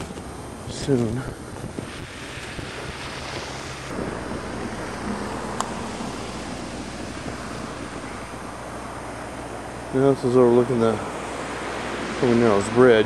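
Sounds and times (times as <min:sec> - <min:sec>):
low rumble of traffic: 0:00.0 - 0:13.0
tyres hissing on snowy road: 0:00.0 - 0:13.0.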